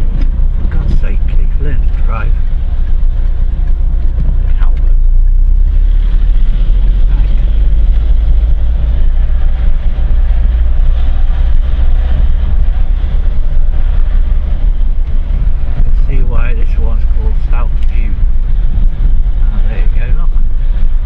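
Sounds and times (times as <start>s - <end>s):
car interior road rumble: 0.0s - 21.0s.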